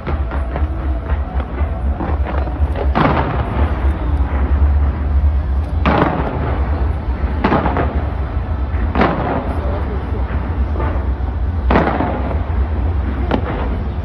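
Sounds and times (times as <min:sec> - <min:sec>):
fireworks booms: 0:00.0 - 0:14.0
fireworks rumble and crackling: 0:00.0 - 0:14.0.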